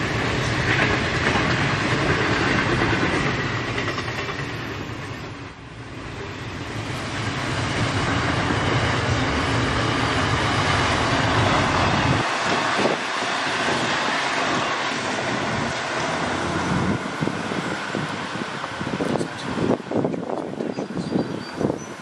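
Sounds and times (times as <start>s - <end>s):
hiss of wheels on rails: 0.0s - 22.0s
train rumbling past: 0.0s - 22.0s.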